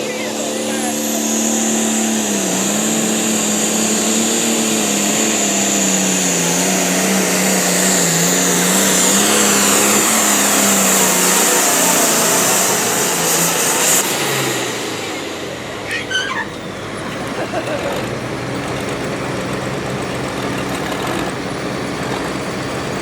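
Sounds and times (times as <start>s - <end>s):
engine at full throttle: 0.0s - 23.0s.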